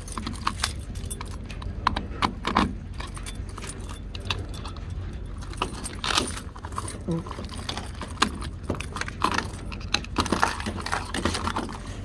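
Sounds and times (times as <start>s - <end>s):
keys jangling: 0.0s - 12.0s.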